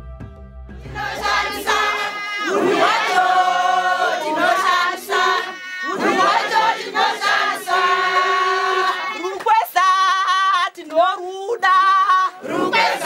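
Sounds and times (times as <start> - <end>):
group singing: 0.8 - 13.0.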